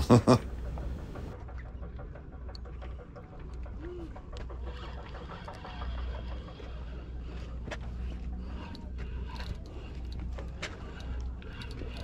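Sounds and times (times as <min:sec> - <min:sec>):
low steady boat rumble: 0:00.0 - 0:12.0.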